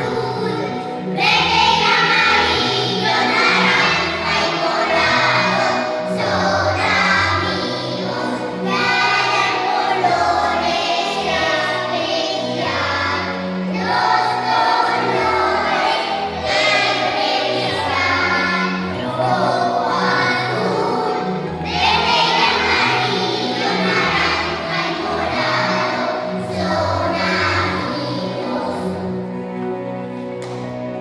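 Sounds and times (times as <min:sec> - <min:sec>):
choir singing: 0:00.0 - 0:29.9
instrumental backing with bass: 0:00.0 - 0:31.0.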